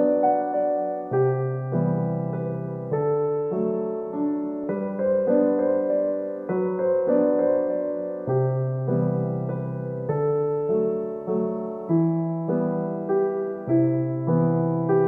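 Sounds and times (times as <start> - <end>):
calm keyboard chords: 0.0 - 15.0.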